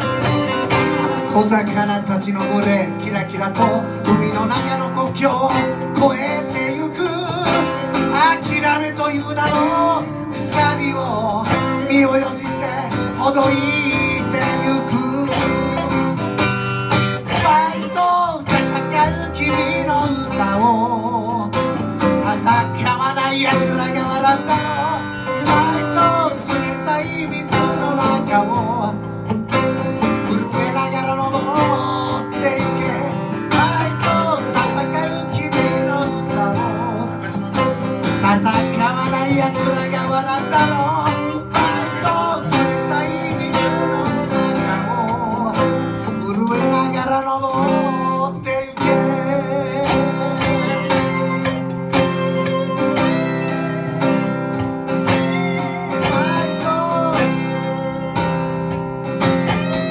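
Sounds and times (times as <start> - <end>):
man singing: 0.0 - 58.4
acoustic guitar strumming: 0.0 - 59.9
electric guitar: 0.0 - 59.9.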